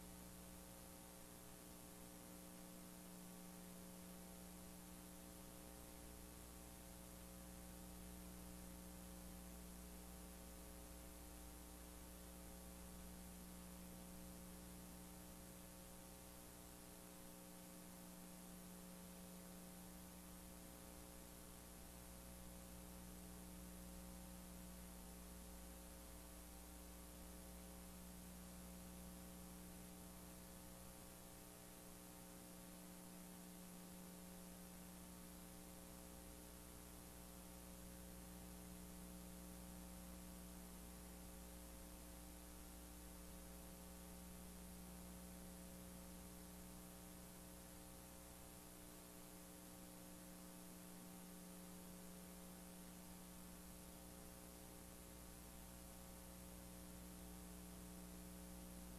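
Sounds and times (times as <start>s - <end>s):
faint electrical hum with hiss: 0.0s - 58.9s.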